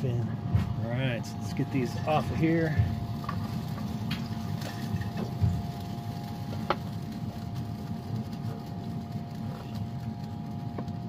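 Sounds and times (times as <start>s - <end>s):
pellet grill humming: 0.0s - 11.0s.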